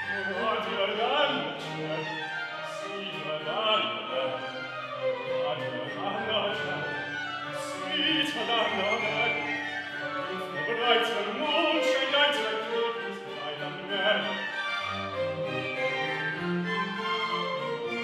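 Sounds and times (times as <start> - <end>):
operatic singing with vibrato: 0.0 - 18.0
string accompaniment: 0.0 - 18.0.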